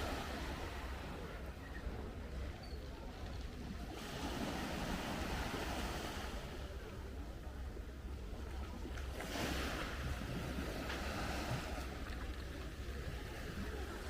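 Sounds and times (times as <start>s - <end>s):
waves washing onto shore: 0.0s - 14.0s
wind rumbling on microphone: 0.0s - 14.0s.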